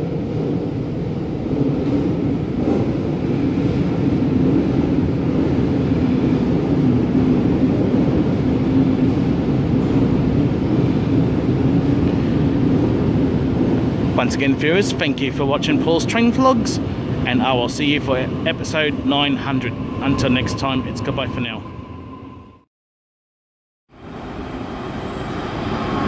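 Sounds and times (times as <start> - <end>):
electric train rumbling: 0.0 - 22.7, 23.9 - 26.0.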